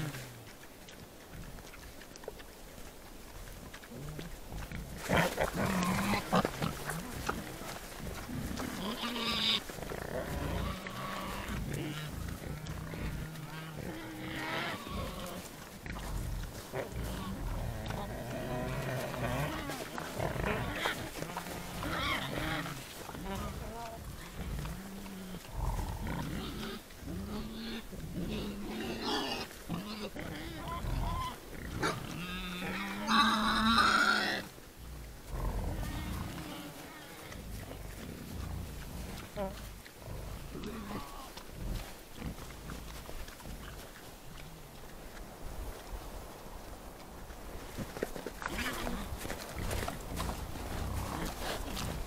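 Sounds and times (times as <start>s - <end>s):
wild boars grunting: 0.0s - 2.1s, 2.8s - 45.7s, 47.6s - 52.0s.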